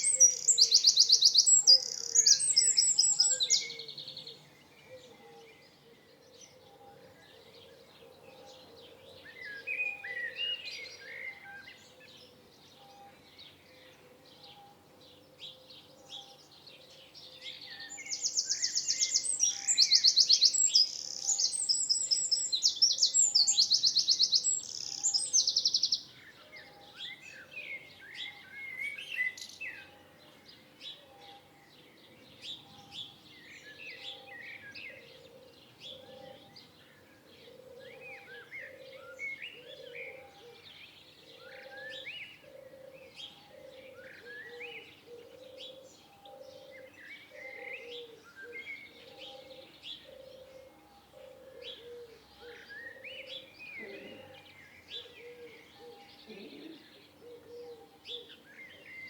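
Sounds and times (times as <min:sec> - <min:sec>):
songbirds chirping and whistling: 0:00.0 - 0:59.0.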